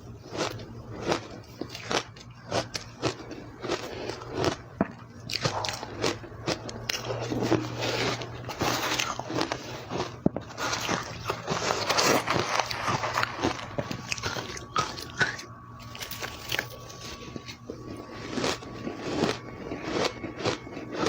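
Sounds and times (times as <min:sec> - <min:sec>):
ice crunching and chewing: 0:00.0 - 0:21.0.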